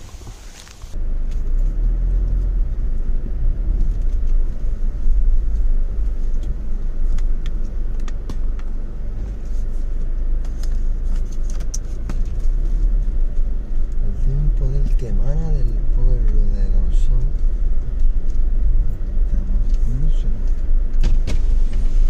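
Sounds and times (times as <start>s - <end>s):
low road rumble: 0.0s - 22.0s.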